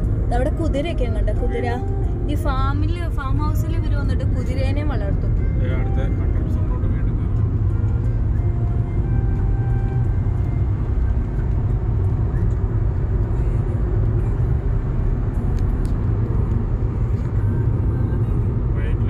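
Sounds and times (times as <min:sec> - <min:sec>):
car tyres and engine rumble: 0:00.0 - 0:19.0.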